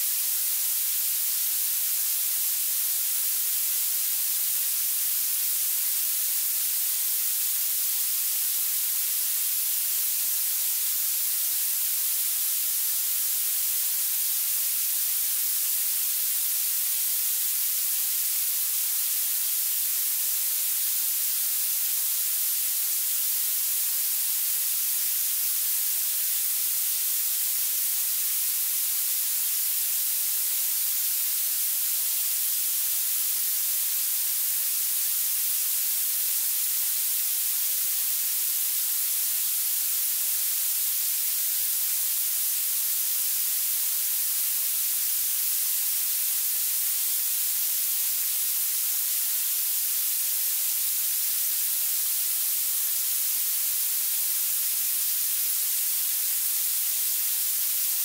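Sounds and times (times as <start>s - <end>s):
high-pitched synthetic hiss: 0.0s - 58.0s.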